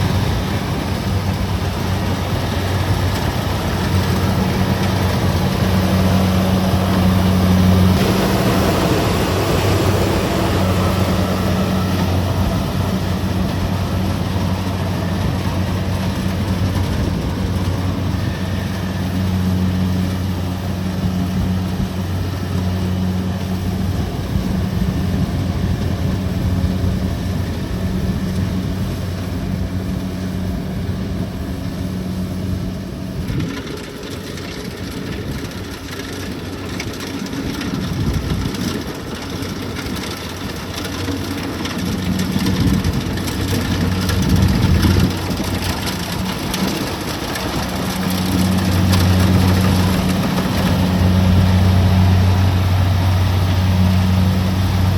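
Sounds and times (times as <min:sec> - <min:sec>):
diesel engine running under load: 0:00.0 - 0:54.9
threshing machinery clatter: 0:00.0 - 0:54.9.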